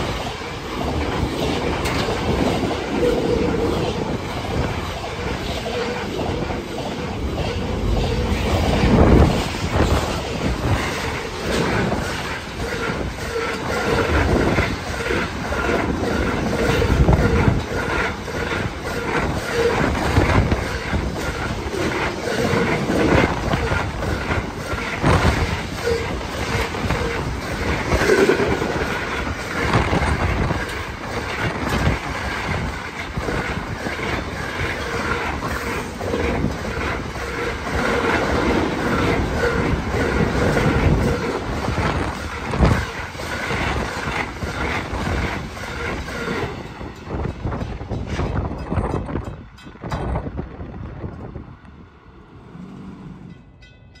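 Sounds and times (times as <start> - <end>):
train wheels clacking over rail joints: 0.0 - 51.4.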